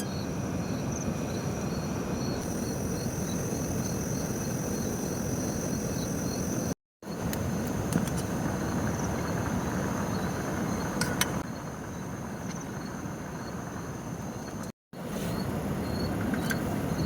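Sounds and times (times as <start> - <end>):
insects trilling: 0.0 - 7.6, 8.3 - 17.0
insect chirps: 0.0 - 17.0.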